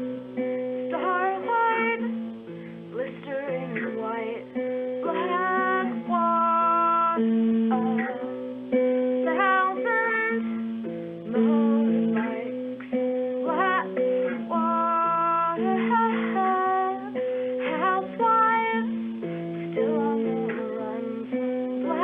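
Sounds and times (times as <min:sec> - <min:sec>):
plucked acoustic guitar: 0:00.0 - 0:22.0
person singing: 0:00.9 - 0:08.3, 0:09.2 - 0:22.0.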